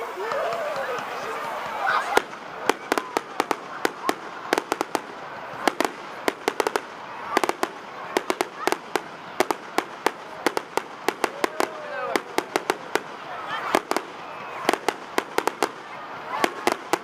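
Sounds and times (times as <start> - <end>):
fireworks bangs and crackles: 0.0 - 17.0
fireworks whistles: 1.9 - 17.0.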